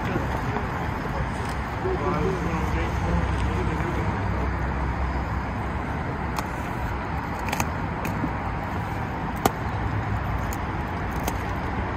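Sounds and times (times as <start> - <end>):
road traffic rumble: 0.0 - 11.9.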